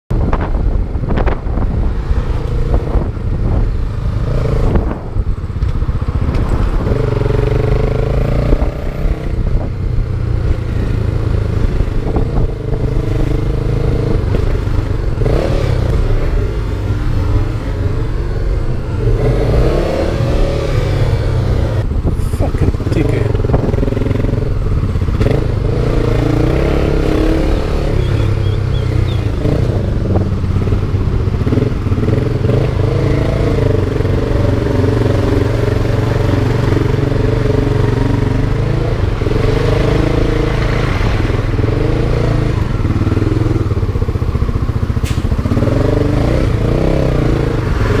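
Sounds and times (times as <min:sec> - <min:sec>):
motorcycle engine at low revs: 0:00.1 - 0:48.0
road noise: 0:00.1 - 0:48.0.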